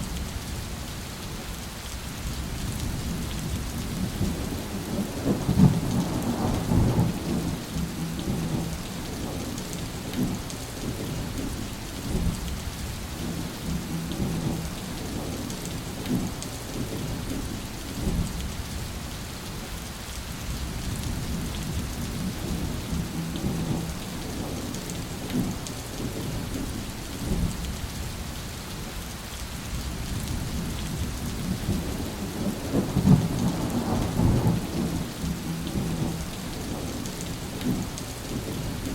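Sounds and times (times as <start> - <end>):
steady rain: 0.0 - 38.9
rolling thunder: 2.4 - 18.4, 20.5 - 27.6, 29.8 - 38.9.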